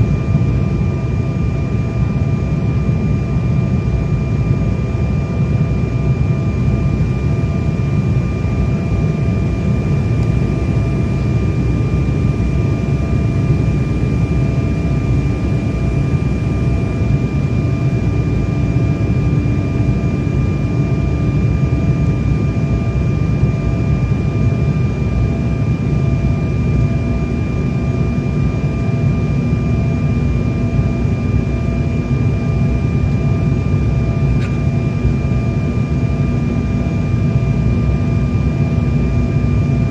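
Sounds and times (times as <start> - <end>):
jet engine rumble and rushing air: 0.0 - 39.9.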